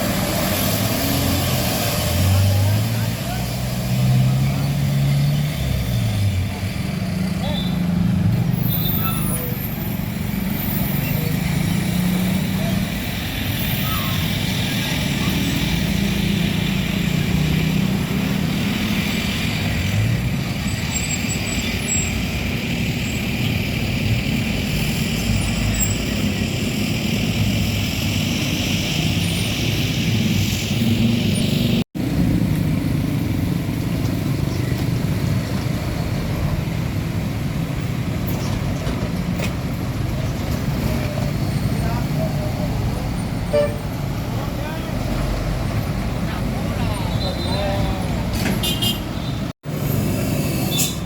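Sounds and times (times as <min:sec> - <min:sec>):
road traffic passing: 0:00.0 - 0:51.0.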